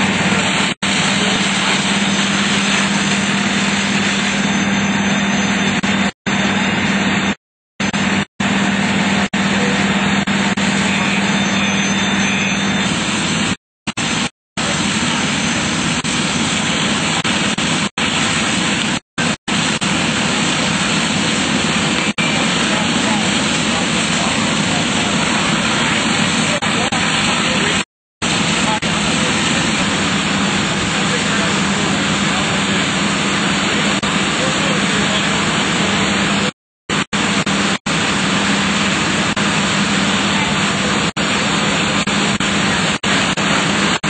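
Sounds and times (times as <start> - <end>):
rush of hose streams: 0.0 - 5.8, 8.8 - 44.0
fire engine pump humming: 0.0 - 44.0.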